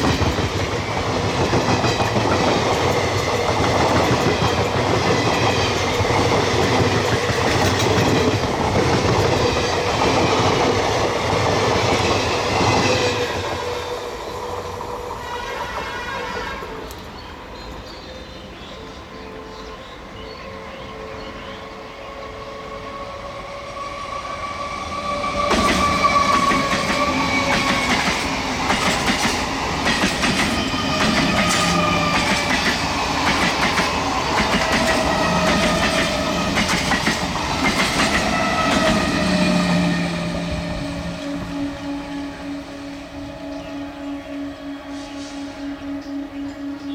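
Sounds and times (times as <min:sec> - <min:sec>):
train passing: 0:00.0 - 0:46.9.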